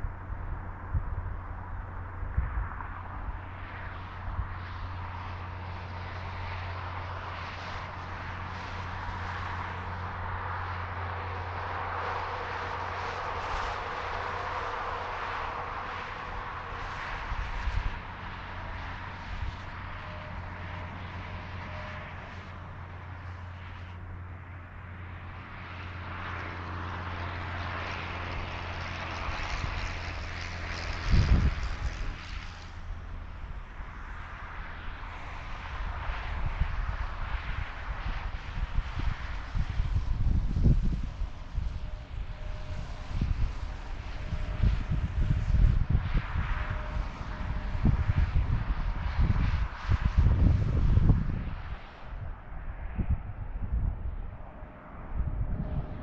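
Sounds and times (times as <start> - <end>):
approaching vehicle tyres and engine: 0.0 - 56.0
highway traffic rushing: 0.0 - 56.0
low hum: 0.0 - 56.0.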